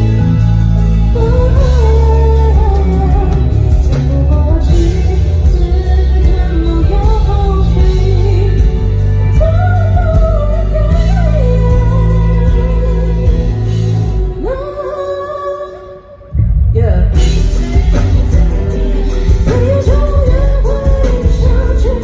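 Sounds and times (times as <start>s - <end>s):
band with heavy bass: 0.0s - 22.0s.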